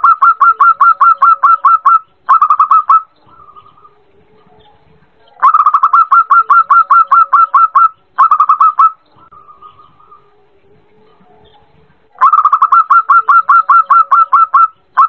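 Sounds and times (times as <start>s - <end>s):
dove song sharp repeated notes: 0.0s - 15.0s.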